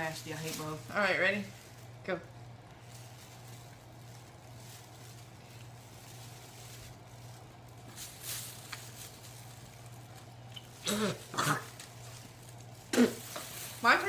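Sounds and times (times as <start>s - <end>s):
plastic bags rustling: 0.0s - 14.0s
steady low hum: 0.0s - 14.0s.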